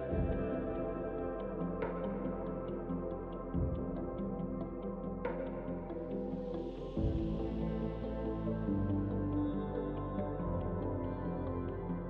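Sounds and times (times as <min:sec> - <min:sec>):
calm ambient music with soft chords: 0:00.0 - 0:12.0.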